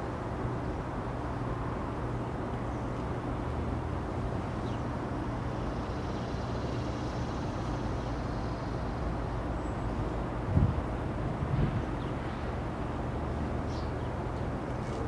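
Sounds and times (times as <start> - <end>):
distant locomotive engine drone: 0.0 - 15.0.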